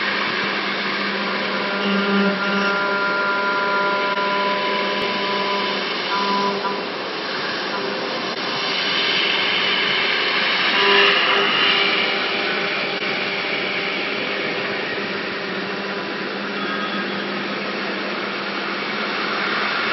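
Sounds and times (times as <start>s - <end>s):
machine spindle milling metal: 0.0s - 19.9s.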